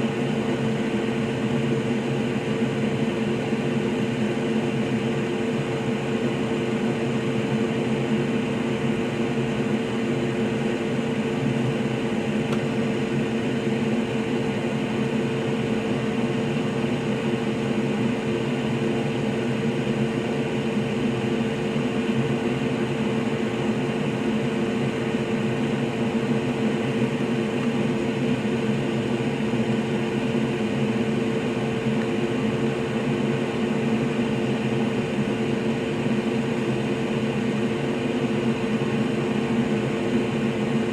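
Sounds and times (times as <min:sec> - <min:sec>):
steady mechanical hum: 0:00.0 - 0:40.9.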